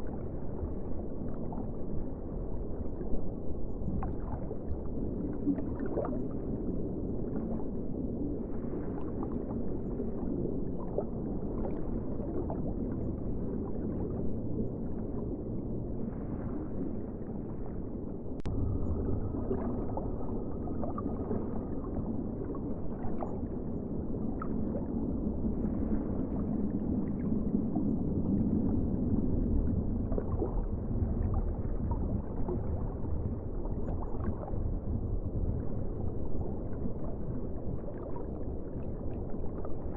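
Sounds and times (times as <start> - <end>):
muffled ocean water wash: 0.0 - 39.9.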